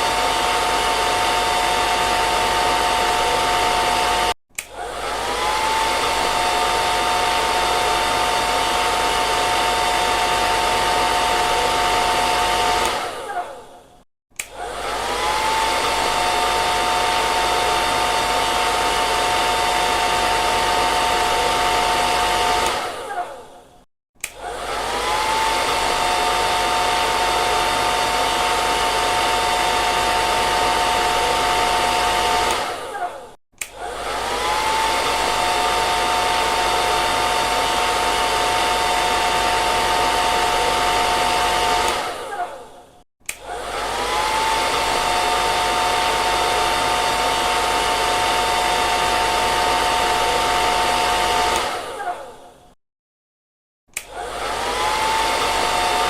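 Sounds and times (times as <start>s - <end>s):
hair dryer blowing: 0.0s - 52.7s, 53.9s - 56.0s.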